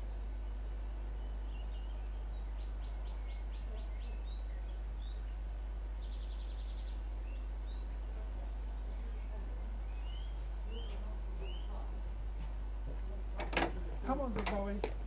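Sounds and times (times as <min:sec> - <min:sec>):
songbird singing: 0:00.0 - 0:15.0
steady low hum: 0:00.0 - 0:15.0.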